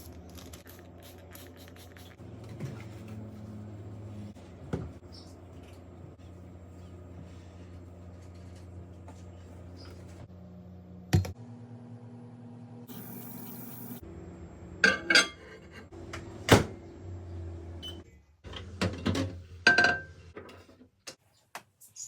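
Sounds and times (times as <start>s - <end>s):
microwave oven humming: 2.2s - 20.4s.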